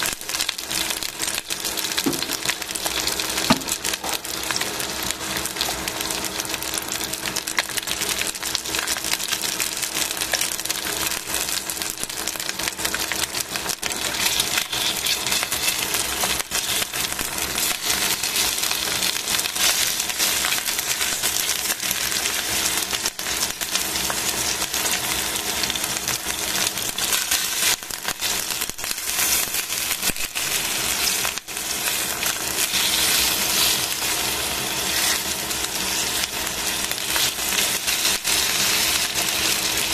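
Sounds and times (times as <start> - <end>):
chicken frying in hot oil: 0.0 - 39.9.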